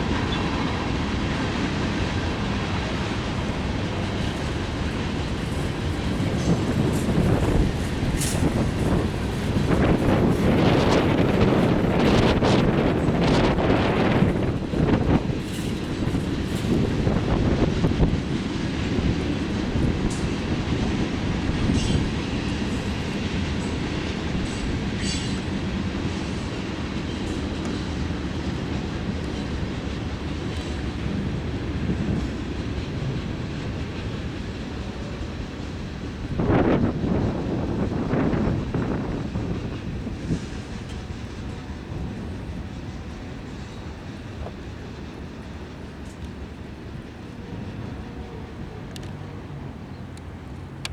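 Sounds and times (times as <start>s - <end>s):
freight train cars rumbling: 0.0s - 50.9s.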